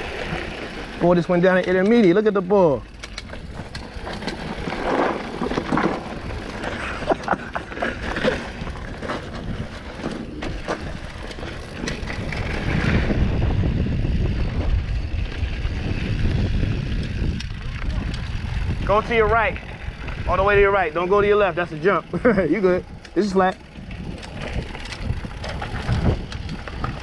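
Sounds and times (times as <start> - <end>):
bike clicks and rattles: 0.0 - 27.0
bike tyres on gravel: 0.0 - 27.0
low rumble: 2.9 - 27.0.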